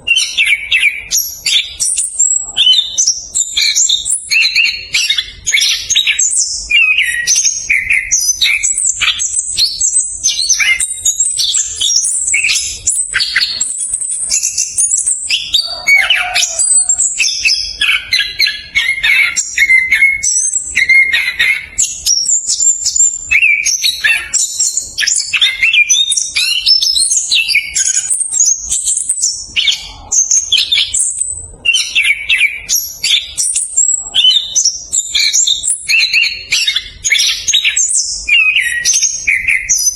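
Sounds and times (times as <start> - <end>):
thrush singing whistles and trills: 0.0 - 39.9.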